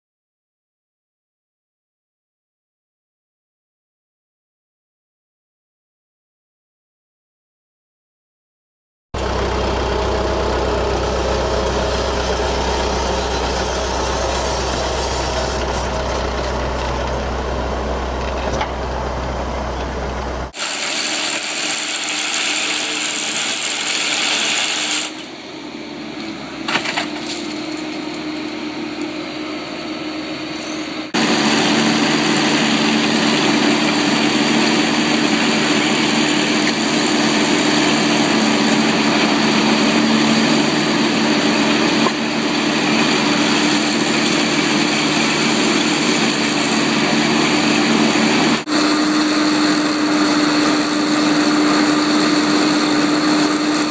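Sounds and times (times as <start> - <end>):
diesel engine running: 9.2 - 53.9.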